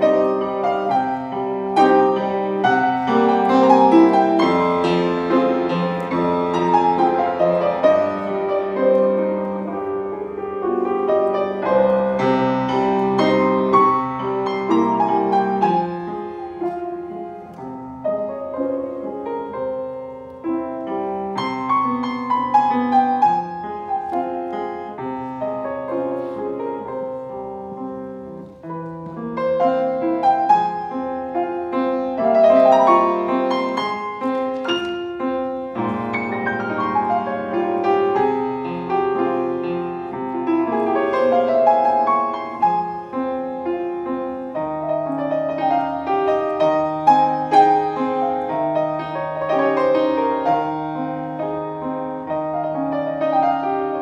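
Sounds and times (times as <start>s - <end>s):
solo grand piano classical piece: 0.0s - 54.0s.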